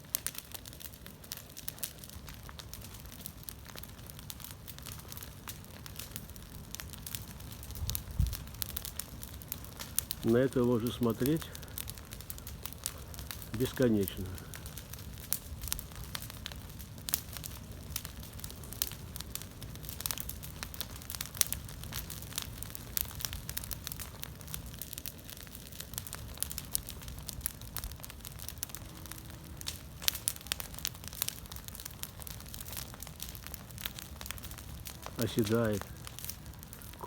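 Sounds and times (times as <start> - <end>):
leaf bonfire crackling: 0.0 - 37.0.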